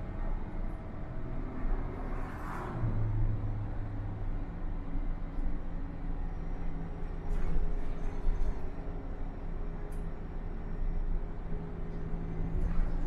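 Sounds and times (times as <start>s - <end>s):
bus engine hum: 0.0s - 13.0s
road rumble: 0.0s - 13.0s.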